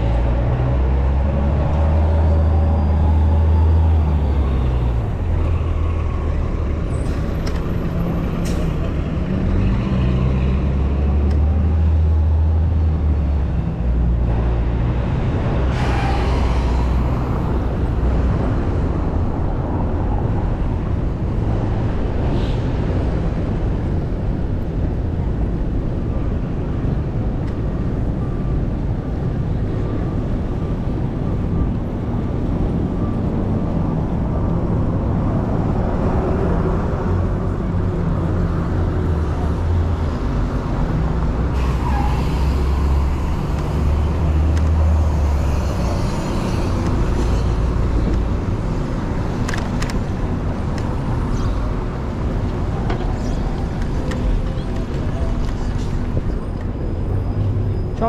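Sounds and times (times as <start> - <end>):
city street traffic: 0.0 - 58.0.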